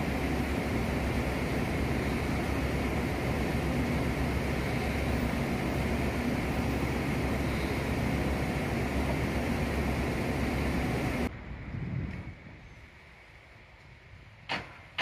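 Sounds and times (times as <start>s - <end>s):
low mechanical drone: 0.0s - 14.5s.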